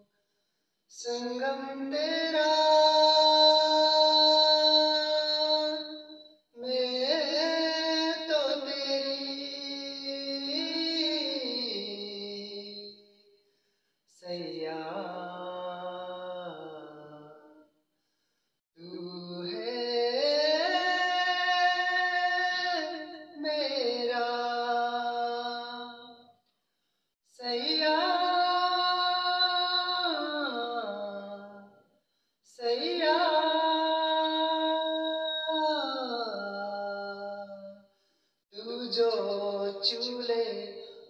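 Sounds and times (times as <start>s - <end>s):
young man singing unaccompanied: 0.9s - 6.0s, 6.6s - 13.0s, 14.1s - 17.4s, 18.8s - 26.1s, 27.3s - 31.7s, 32.5s - 37.6s, 38.5s - 41.0s.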